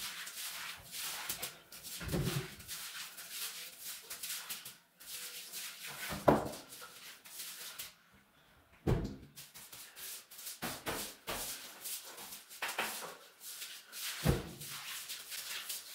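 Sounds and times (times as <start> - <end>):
broom sweeping tile floor: 0.0 - 8.1, 9.2 - 15.9.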